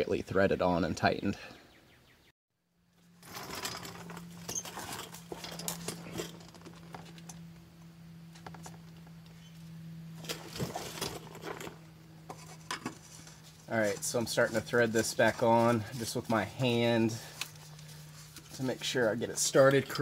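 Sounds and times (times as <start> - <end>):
steady low hum: 2.6 - 20.0.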